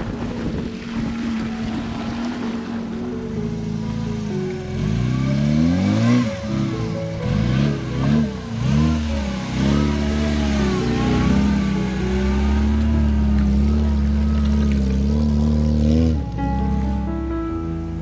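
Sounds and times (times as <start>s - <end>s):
off-road vehicle engine revving: 0.0s - 17.2s.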